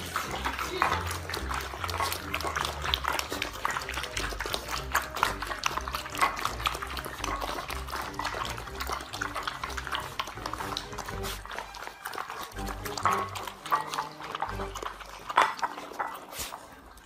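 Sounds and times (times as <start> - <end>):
puppies eating wet smacking: 0.0 - 17.0.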